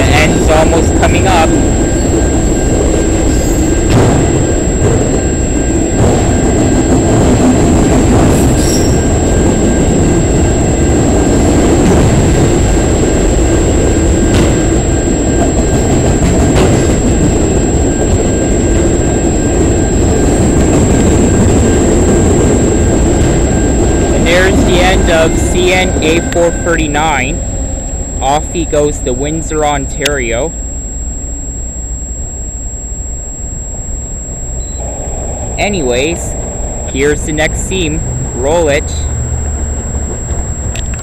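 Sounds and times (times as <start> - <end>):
freight train wheel rumble: 0.0 - 41.0.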